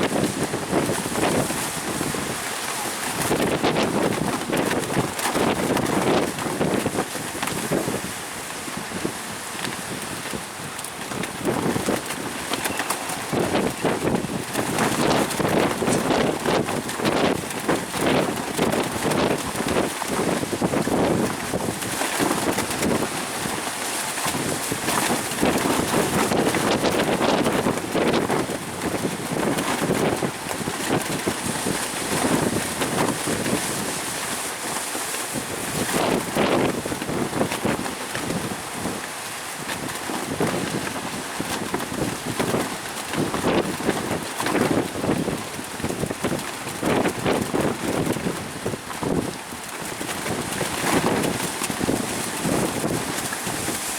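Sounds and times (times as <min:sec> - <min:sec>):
strong wind buffeting microphone: 0:00.0 - 0:53.9.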